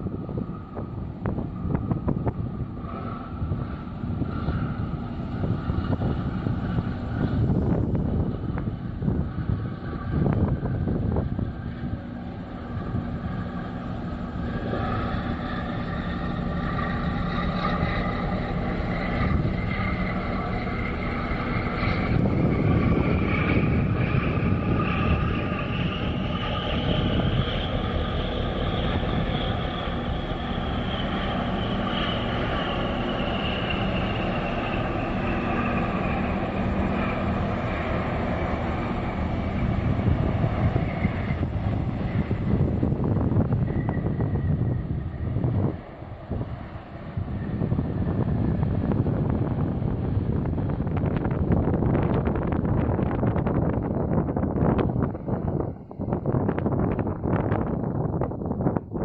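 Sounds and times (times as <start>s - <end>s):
high whine: 0.0s - 59.0s
low engine rumble: 0.0s - 59.0s.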